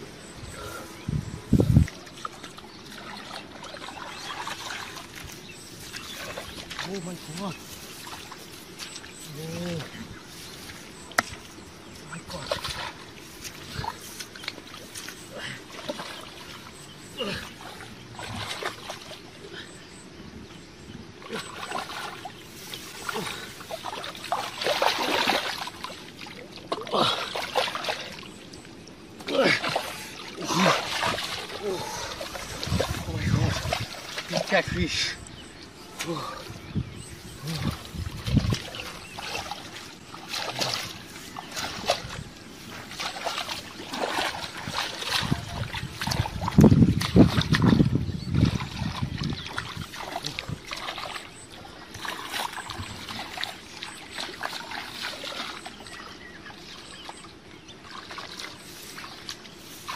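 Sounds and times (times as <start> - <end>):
muddy water sloshing and splashing: 0.0 - 59.9.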